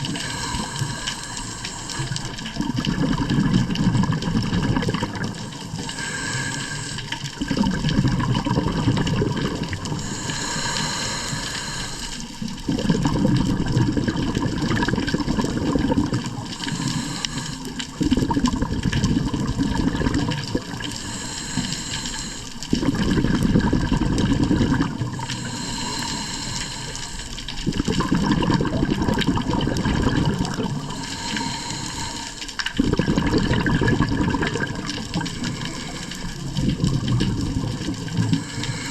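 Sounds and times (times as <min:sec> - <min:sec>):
rushing splashing water: 0:00.0 - 0:38.9.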